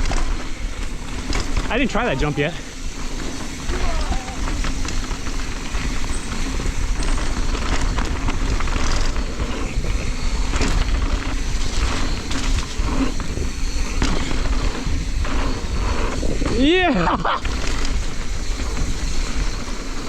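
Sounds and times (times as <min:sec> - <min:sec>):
bike rattling and knocking: 0:00.0 - 0:20.0
wind buffeting microphone: 0:00.0 - 0:20.0.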